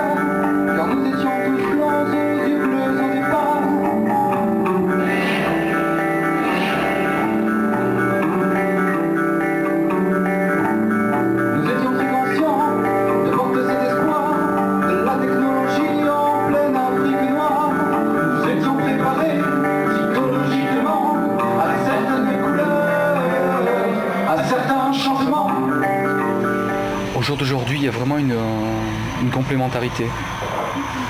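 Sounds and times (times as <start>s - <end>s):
live rock band playing: 0.0s - 29.2s
electric guitar: 0.0s - 31.0s.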